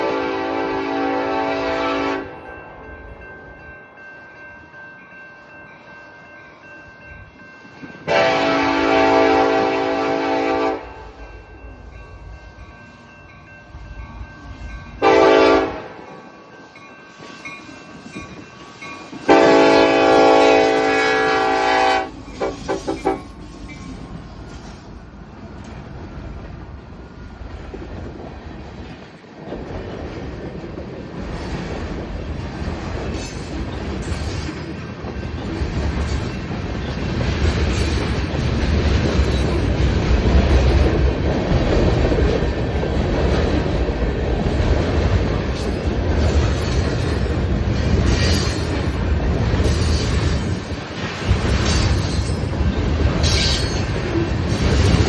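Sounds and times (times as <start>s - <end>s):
train rolling on rails: 0.0s - 55.0s.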